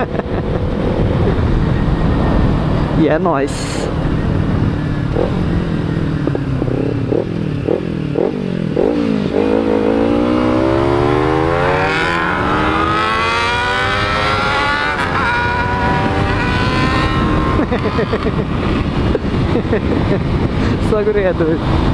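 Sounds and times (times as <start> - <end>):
motorcycle engine revving: 3.7 - 21.9.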